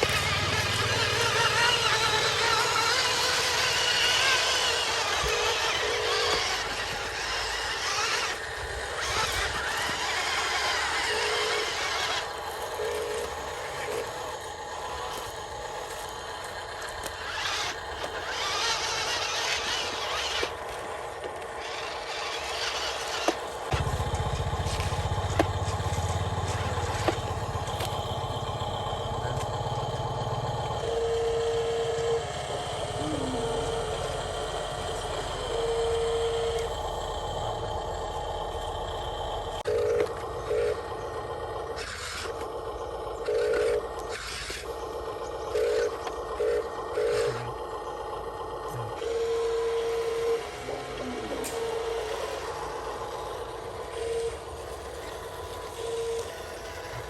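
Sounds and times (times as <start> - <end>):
small electric motors and gears: 0.0 - 57.0.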